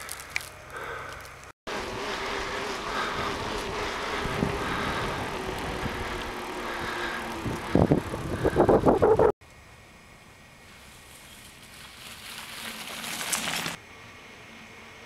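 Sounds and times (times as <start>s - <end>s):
bicycle rolling on a trail: 0.0s - 9.3s, 10.6s - 13.8s.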